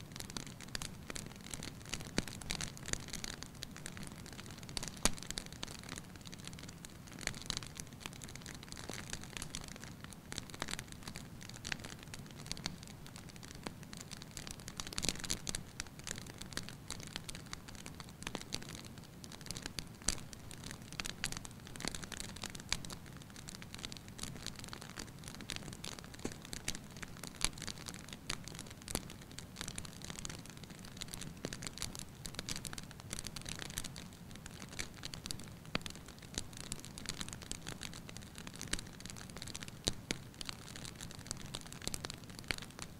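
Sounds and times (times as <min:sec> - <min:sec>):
wood fire crackling: 0:00.1 - 0:42.9.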